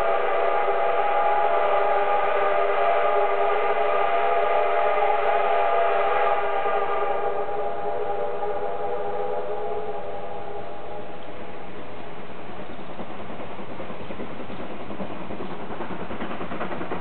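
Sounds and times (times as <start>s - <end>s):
steam train running past: 0.0s - 17.0s.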